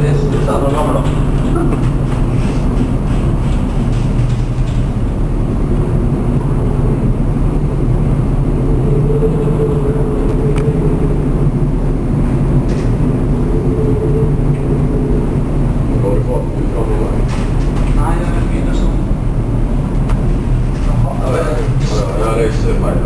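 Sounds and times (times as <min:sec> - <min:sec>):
ship engine rumble and hum: 0:00.0 - 0:23.0.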